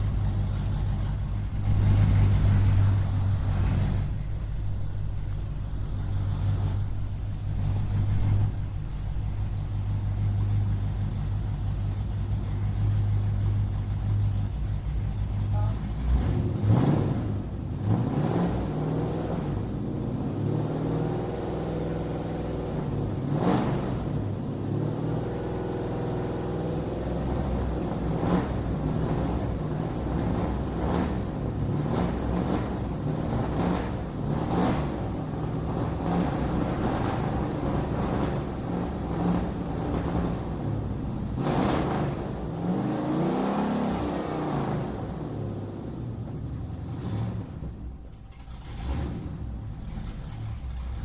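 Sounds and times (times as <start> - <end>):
car engine idling with throttle blips: 0.0 - 51.0.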